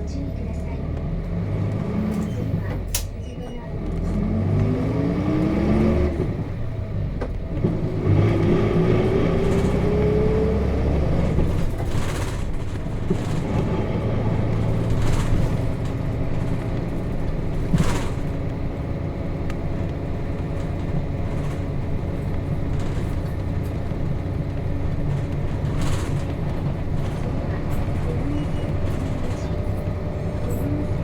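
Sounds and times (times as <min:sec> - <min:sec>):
diesel bus engine pulling away: 0:00.0 - 0:31.0.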